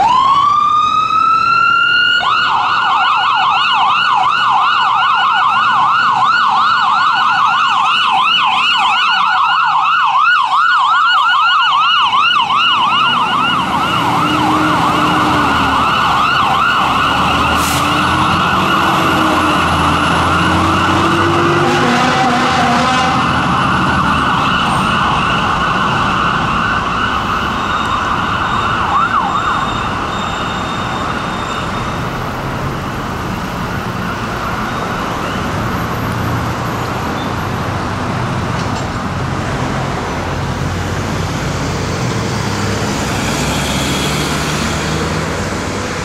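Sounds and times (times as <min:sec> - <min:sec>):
fire truck siren: 0:00.0 - 0:46.0
passing traffic: 0:00.0 - 0:46.0.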